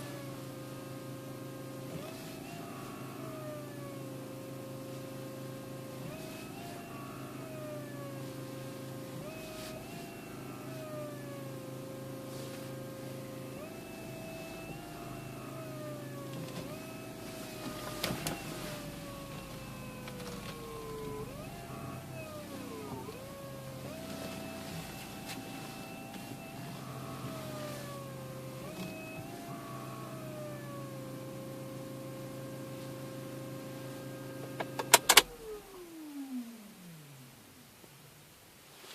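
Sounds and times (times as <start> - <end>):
power steering pump whining: 0.0 - 38.0
steady low hum: 0.0 - 38.8.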